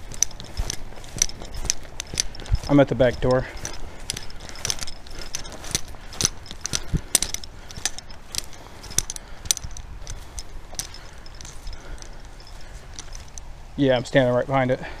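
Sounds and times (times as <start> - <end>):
metallic gear jingling while walking: 0.0 - 15.0.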